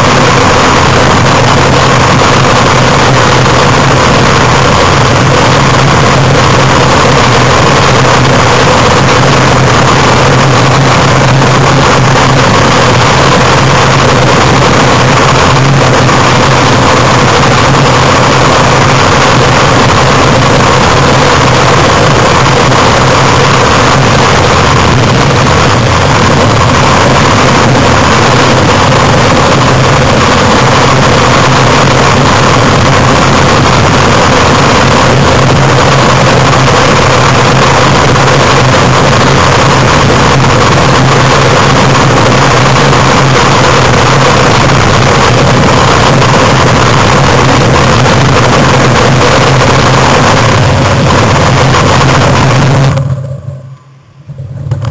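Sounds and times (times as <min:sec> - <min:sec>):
cart wheels rumbling on asphalt: 0:00.0 - 0:53.2.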